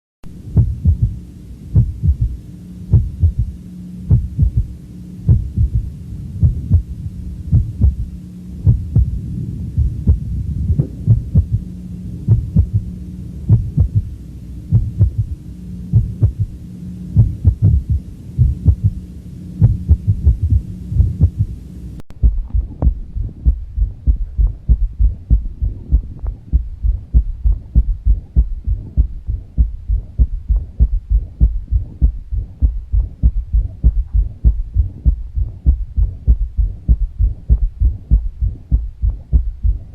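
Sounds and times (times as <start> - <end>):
steady low hum: 0.2 - 39.9
heartbeat thuds in galloping rhythm: 0.5 - 16.6, 17.2 - 19.0, 19.6 - 39.9.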